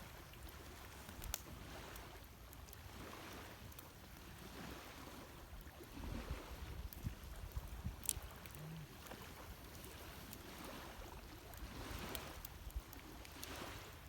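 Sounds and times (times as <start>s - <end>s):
campfire crackling and popping: 0.1s - 4.4s, 5.4s - 14.0s.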